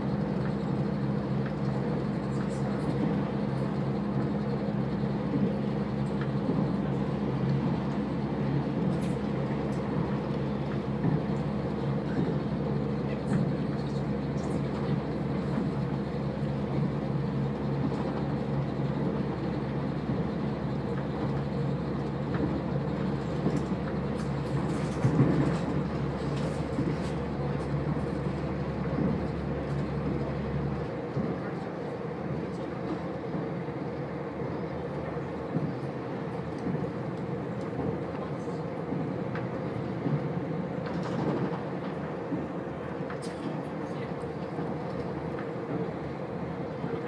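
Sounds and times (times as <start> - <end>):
train engine drone: 0.0 - 47.0
wheels rushing on rails: 0.0 - 47.0.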